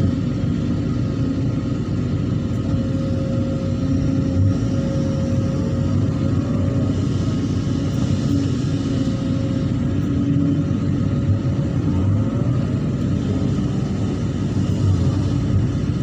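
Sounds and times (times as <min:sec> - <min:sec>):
excavator diesel engine running: 0:00.0 - 0:16.0
faint hydraulic whine: 0:00.0 - 0:16.0.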